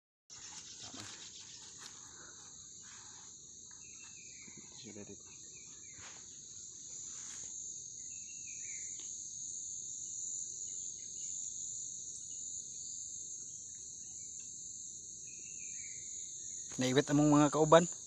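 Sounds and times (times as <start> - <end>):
high-pitched insect chorus: 0.3 - 18.0.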